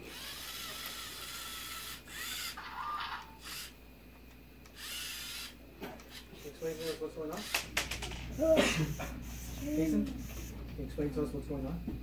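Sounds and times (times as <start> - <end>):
robot servo motors running: 0.0 - 3.7, 4.6 - 10.6.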